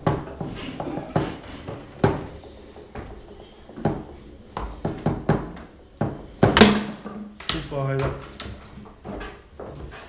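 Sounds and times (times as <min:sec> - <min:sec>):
foosball ball knocks: 0:00.0 - 0:08.3.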